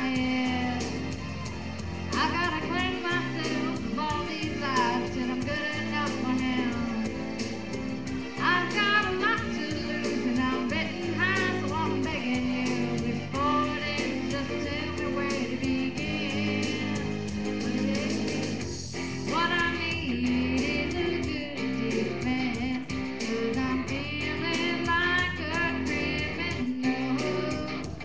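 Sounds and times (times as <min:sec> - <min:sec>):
person singing: 0:00.0 - 0:07.3, 0:08.2 - 0:18.6, 0:19.3 - 0:28.0
held bass notes: 0:00.0 - 0:28.0.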